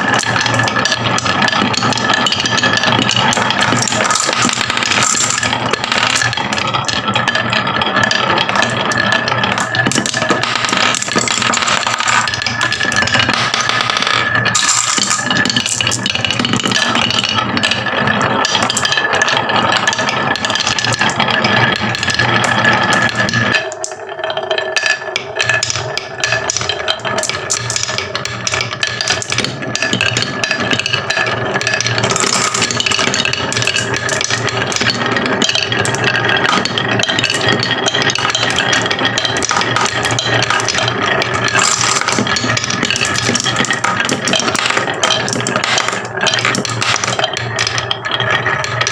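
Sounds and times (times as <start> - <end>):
marbles rattling down a track: 0.0 - 48.9.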